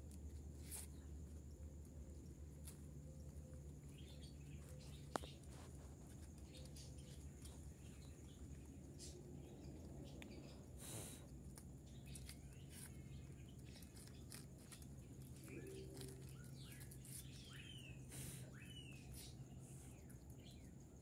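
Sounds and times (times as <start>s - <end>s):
rabbits nibbling in dry leaves: 0.0s - 21.0s
faint bird chirps: 0.1s - 21.0s.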